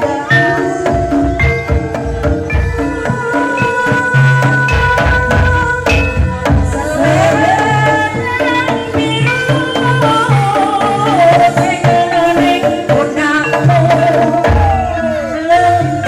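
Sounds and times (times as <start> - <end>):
hand drums beat: 0.0 - 16.0.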